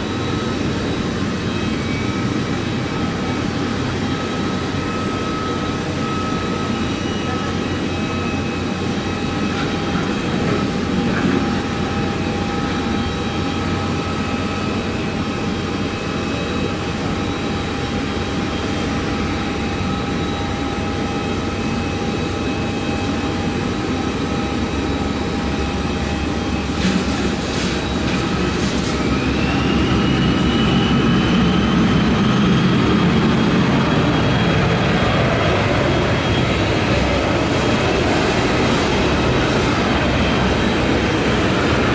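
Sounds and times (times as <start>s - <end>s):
jet engines roaring and whining: 0.0s - 41.9s.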